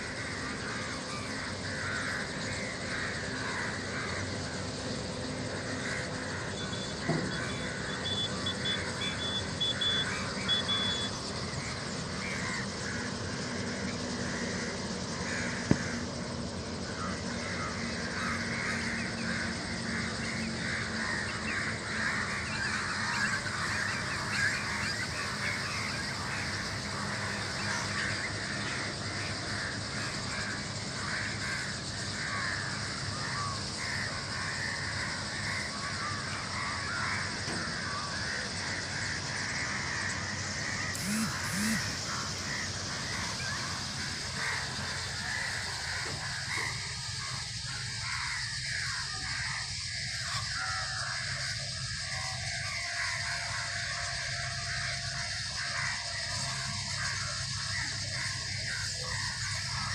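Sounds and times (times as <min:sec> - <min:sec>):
flock of birds chattering: 0:00.0 - 0:59.9.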